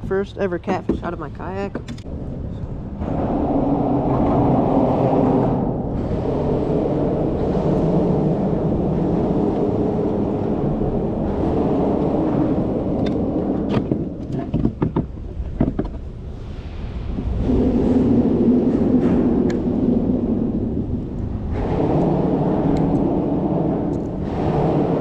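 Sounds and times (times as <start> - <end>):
low rumble on microphone: 0.0 - 25.0.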